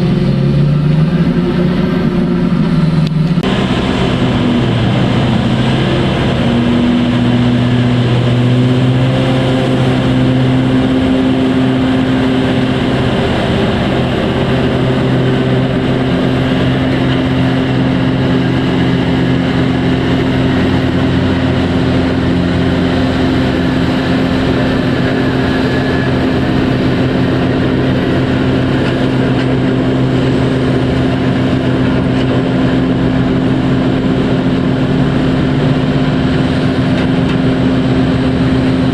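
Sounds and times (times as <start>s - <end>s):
large diesel engine running: 0.0s - 38.9s.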